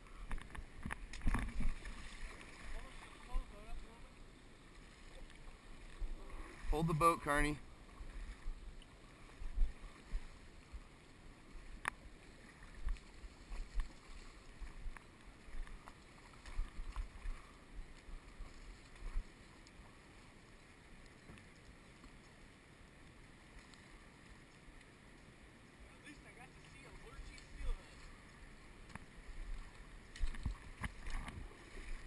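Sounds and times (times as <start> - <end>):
faint water hiss: 0.0 - 32.0.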